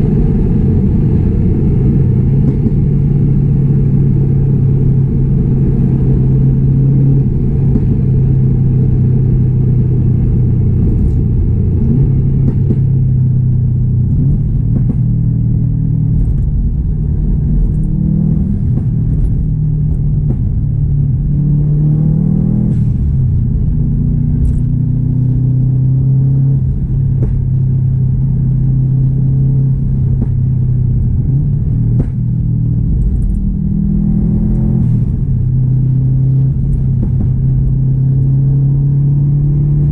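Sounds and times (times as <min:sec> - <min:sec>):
car engine and exhaust droning: 0:00.0 - 0:39.9.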